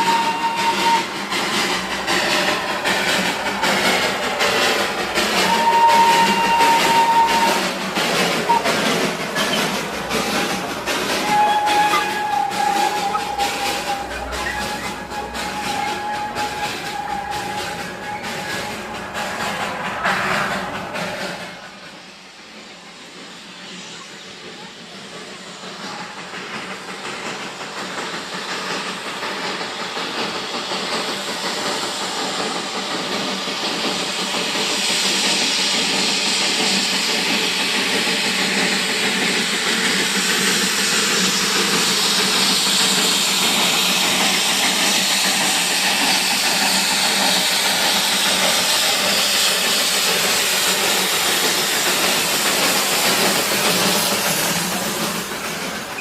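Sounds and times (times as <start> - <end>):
toy train steady hiss: 0.0 - 56.0.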